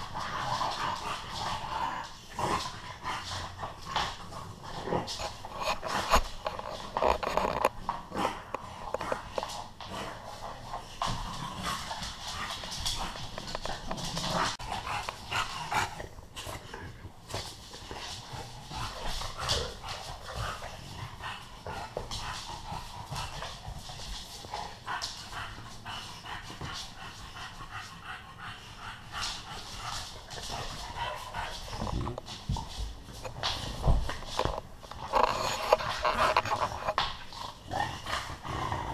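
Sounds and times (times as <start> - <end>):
claws clicking on laminate floor: 0.0 - 16.6, 17.3 - 27.9, 29.2 - 38.4
dogs breathing and mouthing: 0.0 - 38.9.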